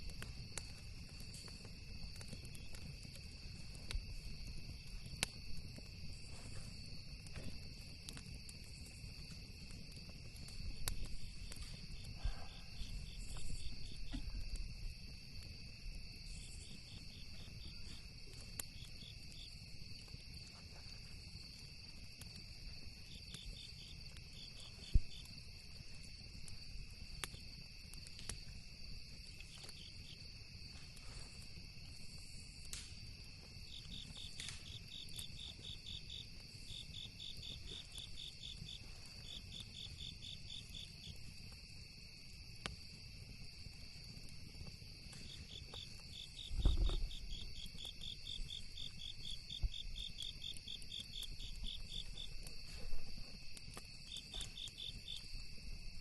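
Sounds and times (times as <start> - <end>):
campfire crackling pops: 0.0 - 56.0
crickets chirping: 0.0 - 56.0.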